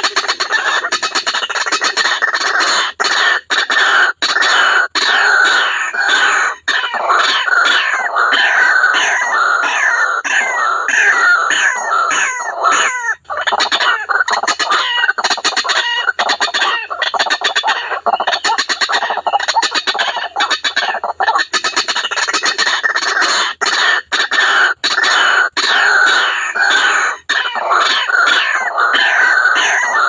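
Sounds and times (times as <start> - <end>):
waterhen calling harsh repeated notes: 0.0 - 30.0.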